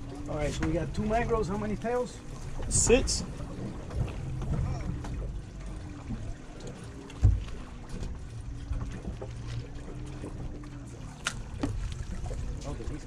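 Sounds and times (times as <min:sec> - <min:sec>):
low steady hum: 0:00.0 - 0:13.0
water against boat hull: 0:00.0 - 0:13.0
wind: 0:00.0 - 0:13.0.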